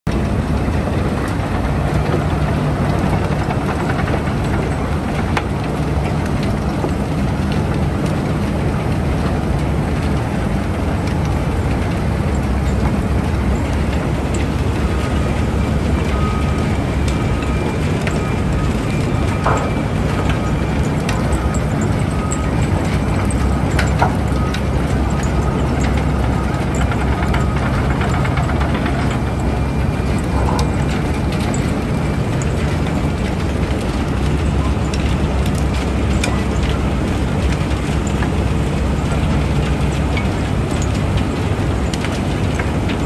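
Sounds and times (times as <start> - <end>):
loud mechanical rumble: 0.0 - 43.0.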